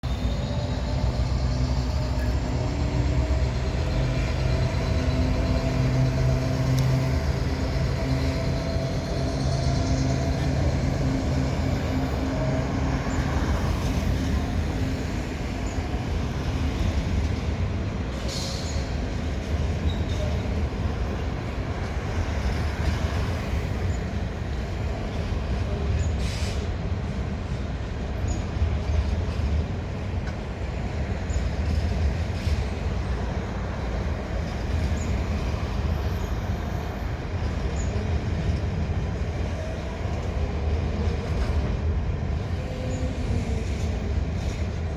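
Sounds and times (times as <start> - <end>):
train rumbling across bridge: 0.0 - 44.9.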